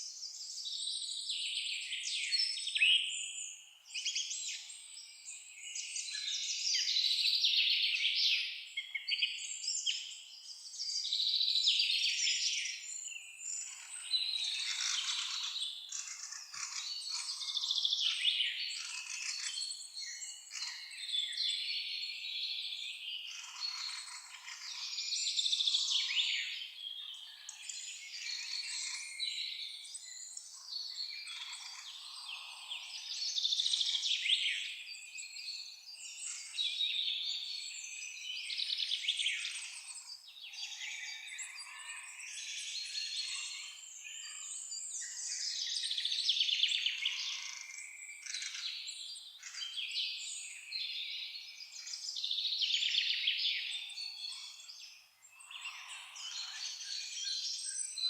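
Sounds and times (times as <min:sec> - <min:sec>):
songbirds chorus: 0:00.0 - 0:58.0.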